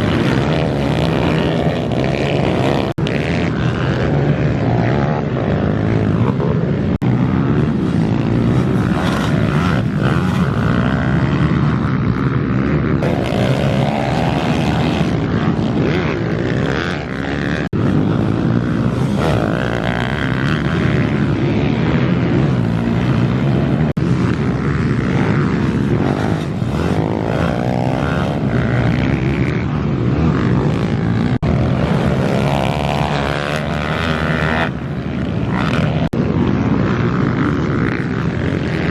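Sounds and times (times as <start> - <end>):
pit bike engine racing: 0.0 - 38.9.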